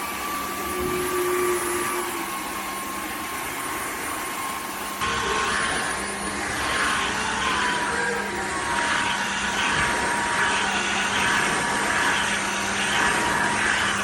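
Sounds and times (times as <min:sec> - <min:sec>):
vacuum mop running: 0:00.0 - 0:14.0.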